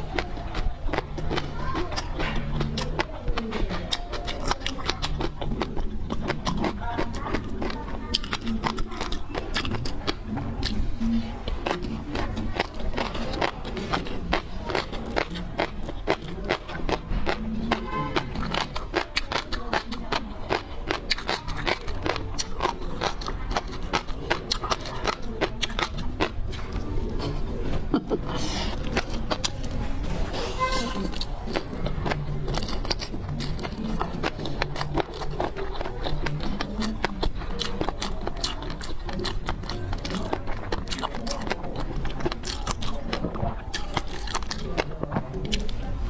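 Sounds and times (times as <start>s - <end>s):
chewing seafood clicks and smacks: 0.0s - 46.0s.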